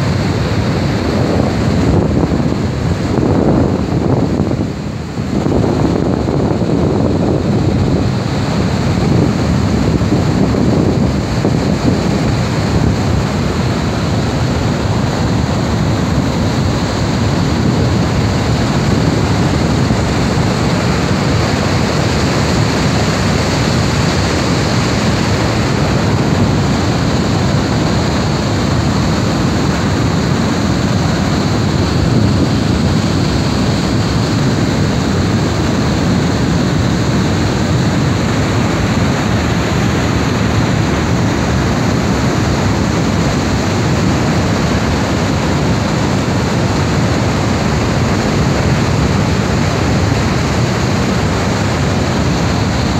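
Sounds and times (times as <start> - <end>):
waterfall roaring: 0.0 - 52.9.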